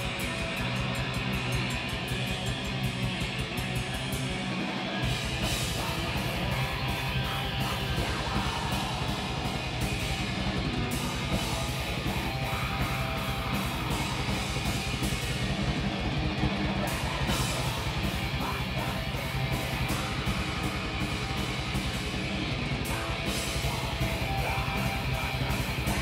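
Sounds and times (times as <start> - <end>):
electric guitars: 0.0 - 26.0
fast dense drumming: 0.0 - 26.0.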